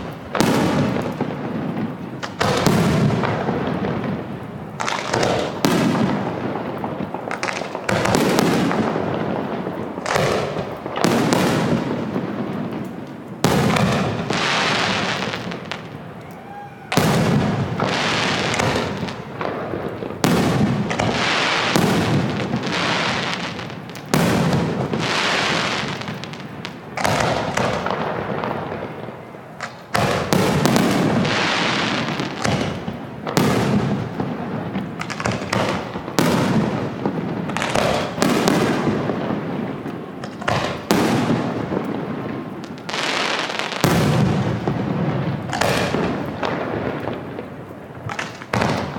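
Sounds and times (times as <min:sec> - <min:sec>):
firework booms: 0:00.0 - 0:48.9.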